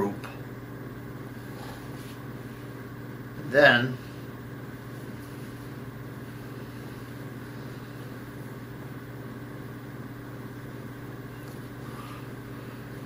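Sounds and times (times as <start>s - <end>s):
low room tone hum: 0.0s - 13.0s.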